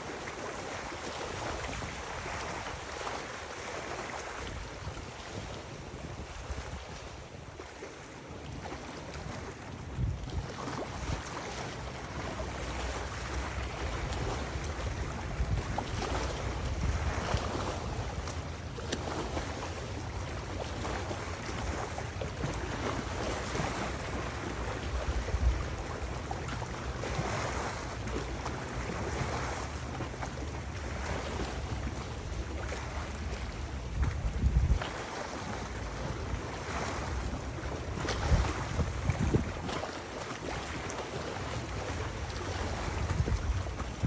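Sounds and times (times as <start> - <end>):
rushing water: 0.0 - 44.0
wind buffeting microphone: 4.0 - 7.6, 8.4 - 44.0.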